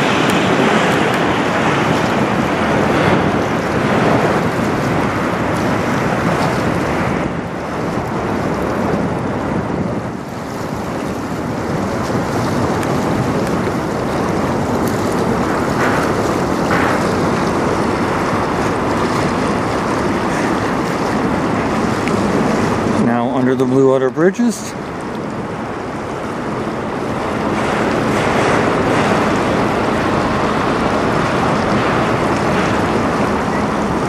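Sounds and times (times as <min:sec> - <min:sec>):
river water rushing: 0:00.0 - 0:34.0
ship churning water: 0:00.0 - 0:34.0
wind on microphone: 0:00.0 - 0:34.0.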